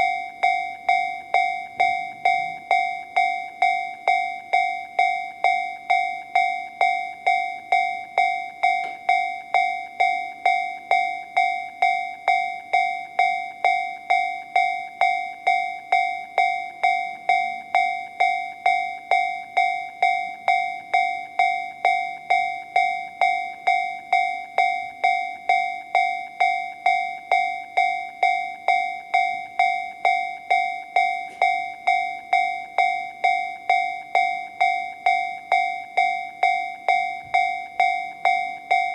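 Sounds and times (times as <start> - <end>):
level crossing alarm bell ringing: 0.0 - 38.9.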